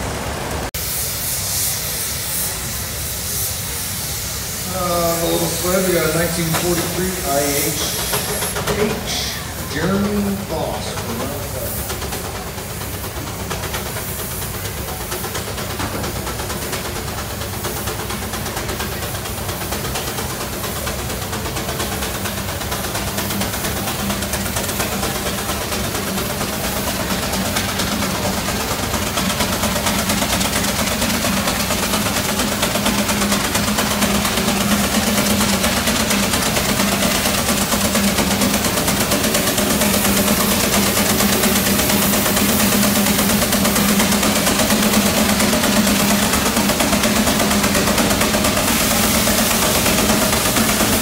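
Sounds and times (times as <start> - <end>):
steam engine mechanical drone: 0.0 - 51.0
steam venting hiss: 0.1 - 51.0.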